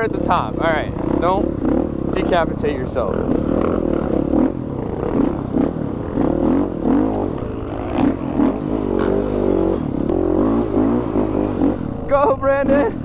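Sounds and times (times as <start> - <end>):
bike rattling: 0.0 - 13.0
dirt bike engine revving: 0.0 - 13.0.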